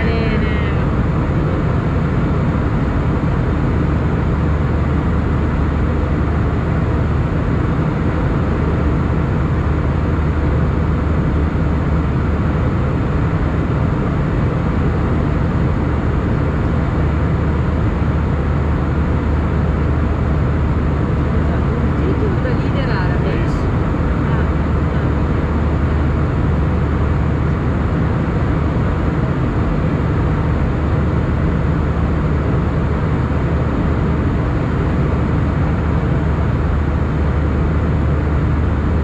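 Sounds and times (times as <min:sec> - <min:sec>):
jet engines and airflow rushing: 0:00.0 - 0:39.0
low even hum: 0:00.0 - 0:39.0.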